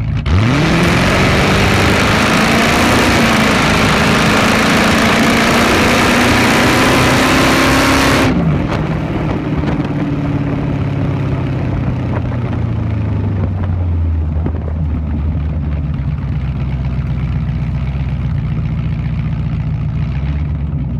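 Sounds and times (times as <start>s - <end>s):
loud vehicle exhaust accelerating: 0.0s - 20.9s.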